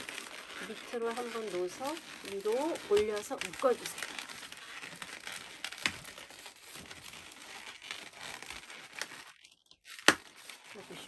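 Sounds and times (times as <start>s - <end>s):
balloons rubbing together: 0.0s - 11.0s.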